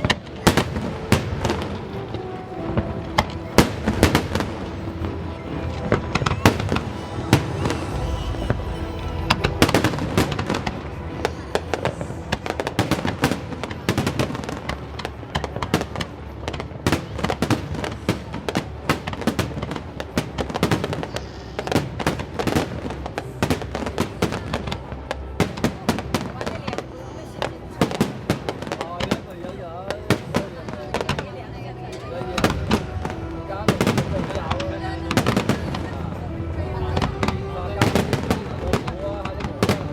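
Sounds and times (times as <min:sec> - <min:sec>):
fireworks bangs and crackles: 0:00.0 - 0:39.9
music playing: 0:00.0 - 0:39.9.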